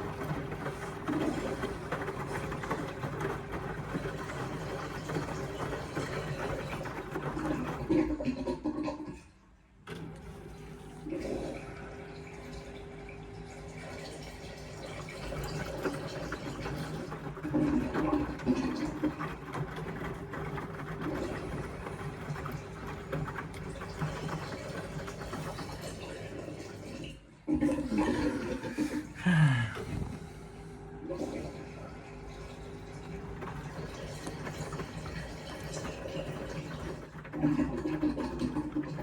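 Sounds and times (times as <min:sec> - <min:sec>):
washing machine hum: 0:00.0 - 0:39.0
water rushing in washing machine: 0:00.0 - 0:39.0.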